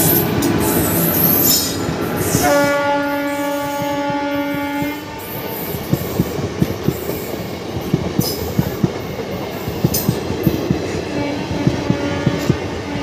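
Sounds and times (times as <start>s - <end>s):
train wheels clacking over rail joints: 1.4s - 12.8s.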